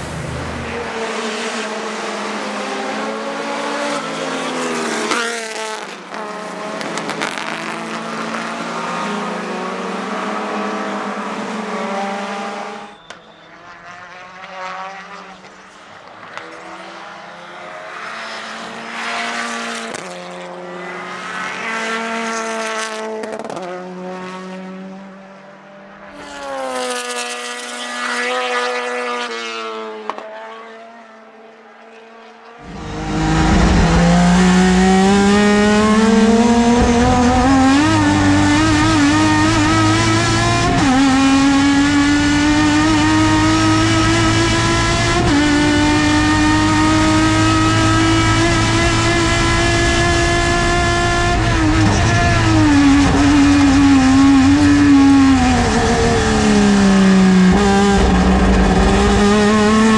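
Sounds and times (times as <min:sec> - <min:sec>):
racing car engines accelerating: 0:00.0 - 0:59.9.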